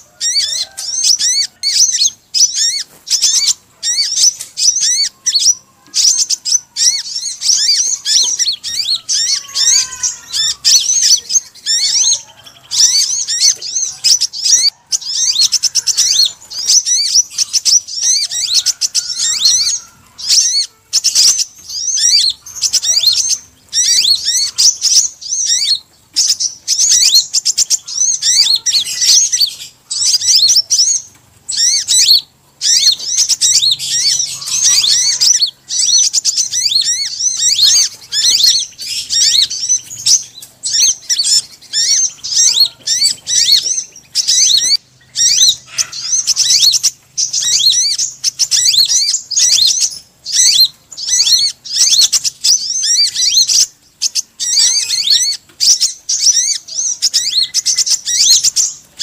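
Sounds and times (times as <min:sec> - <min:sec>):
bird chittering trills: 0:00.0 - 0:59.0.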